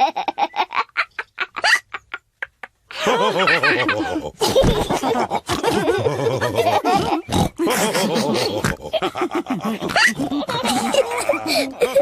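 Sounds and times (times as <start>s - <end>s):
cartoon pigs laughing: 0.0s - 12.0s.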